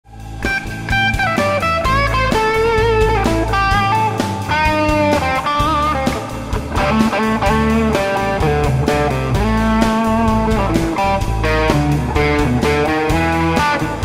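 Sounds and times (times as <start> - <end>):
bass line: 0.1 - 14.0
electric guitar blues lead: 0.1 - 14.0
drum beat: 0.3 - 14.0.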